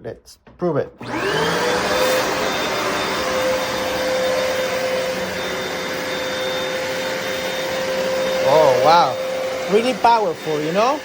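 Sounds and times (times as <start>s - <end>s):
carpet cleaner motor whine: 1.0s - 11.0s.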